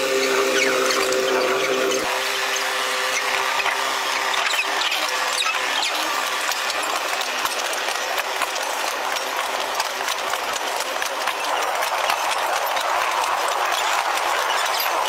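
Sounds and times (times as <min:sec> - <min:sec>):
train rattling on rails: 0:00.0 - 0:15.0.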